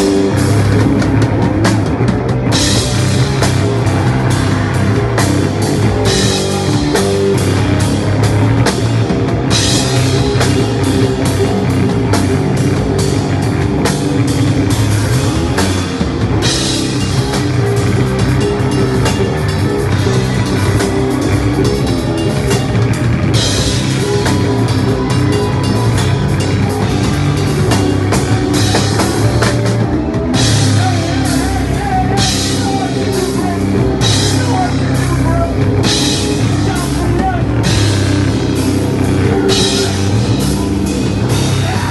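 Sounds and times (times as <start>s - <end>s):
bass guitar: 0.0s - 41.9s
distorted electric guitars: 0.0s - 41.9s
pounding drum kit: 0.0s - 41.9s.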